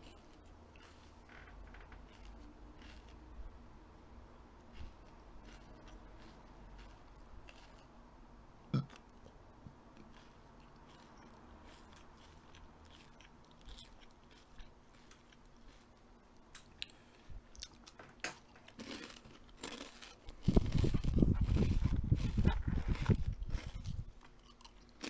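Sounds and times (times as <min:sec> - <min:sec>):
animal crunching and chewing: 0:00.0 - 0:03.4, 0:04.6 - 0:08.0, 0:10.0 - 0:25.0.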